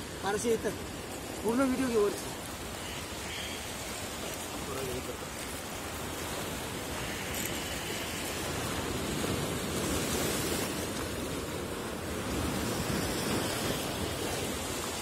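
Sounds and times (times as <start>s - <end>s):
sea surf on shore: 0.0s - 15.0s.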